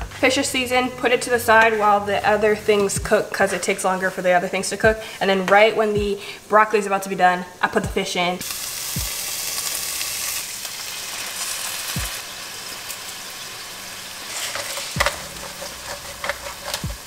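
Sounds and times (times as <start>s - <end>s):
vegetables sizzling in oil: 0.1s - 17.0s.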